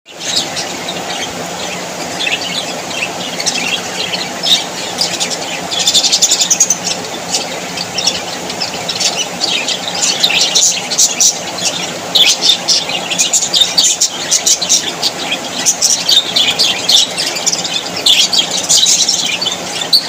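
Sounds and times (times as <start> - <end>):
budgerigars chattering and chirping: 0.1 - 20.0.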